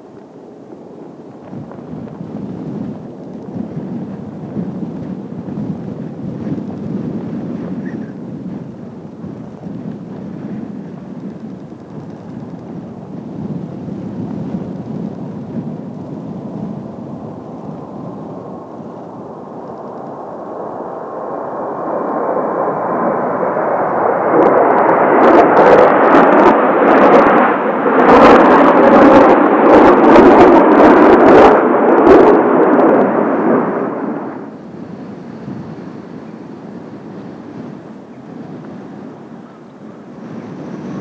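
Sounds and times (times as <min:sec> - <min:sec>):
jet aircraft flying past: 0:00.0 - 0:41.0.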